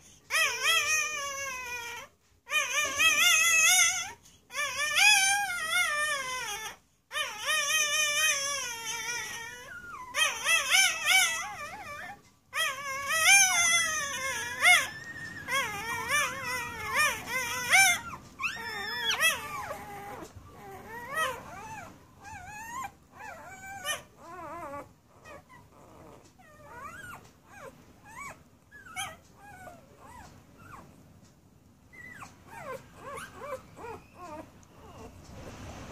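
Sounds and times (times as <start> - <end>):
puppies whimpering and squealing: 0.2 - 31.0, 31.9 - 35.4.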